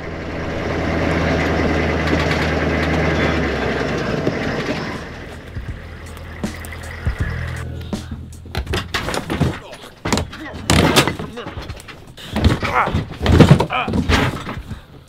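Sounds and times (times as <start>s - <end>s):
heavy engine running: 0.0s - 13.2s.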